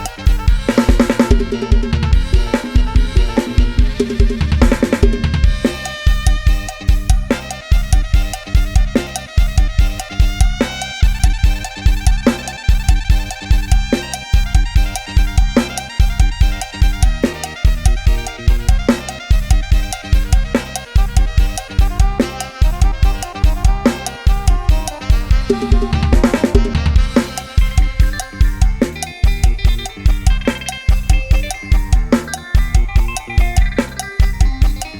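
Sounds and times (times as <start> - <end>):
drum beat: 0.0 - 34.9
drum fill: 0.0 - 34.9
fast instrumental music: 0.0 - 34.9.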